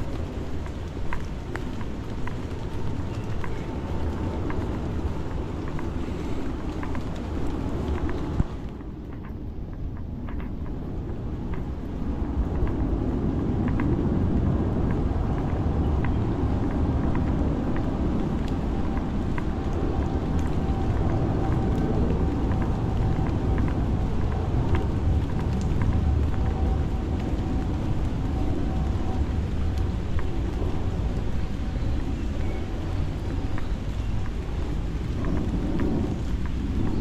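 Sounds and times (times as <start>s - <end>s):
light ticks of raindrops: 0.0s - 37.0s
low rumble of rain: 0.0s - 37.0s.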